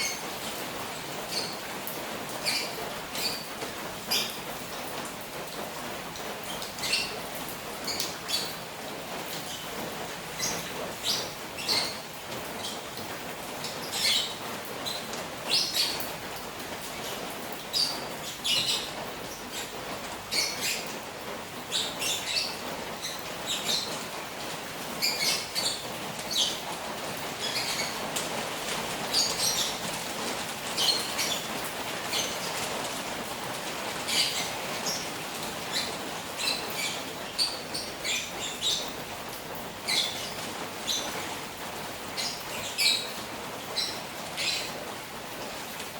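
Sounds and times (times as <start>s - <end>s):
rain falling on a pond: 0.0s - 45.9s.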